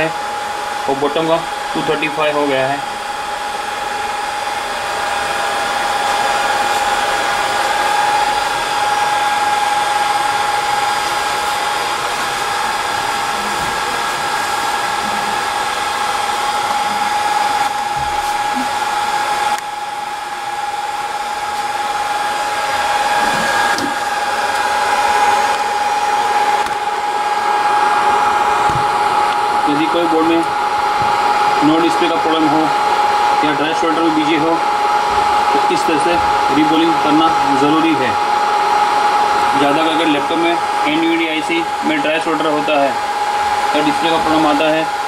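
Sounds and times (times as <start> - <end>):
hot-air blower hissing: 0.0 - 45.0.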